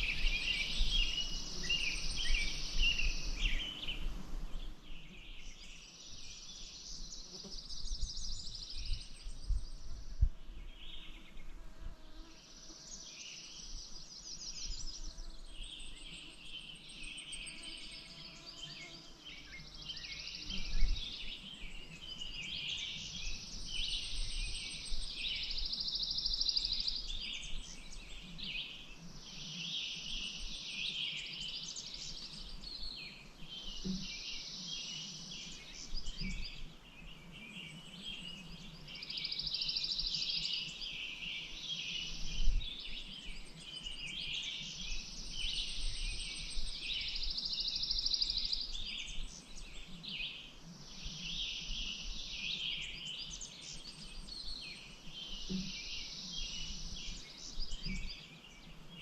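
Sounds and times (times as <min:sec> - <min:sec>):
birds chirping and singing: 0:00.0 - 0:11.5, 0:12.9 - 0:59.0.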